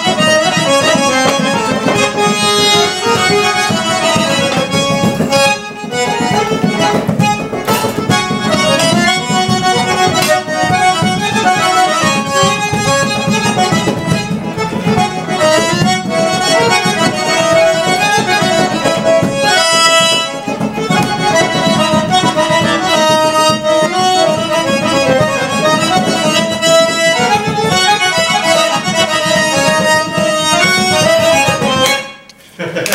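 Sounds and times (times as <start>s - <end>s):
accordion playing a tune: 0.0s - 32.5s.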